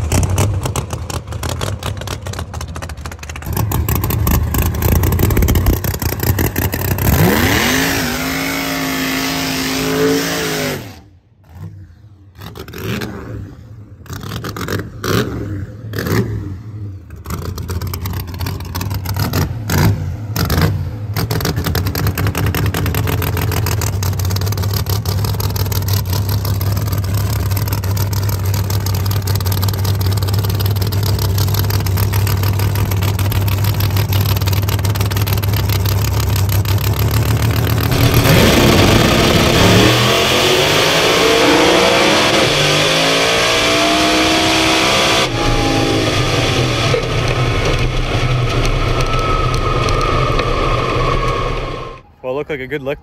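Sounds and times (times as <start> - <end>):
drag car engine revving: 0.0 - 52.1.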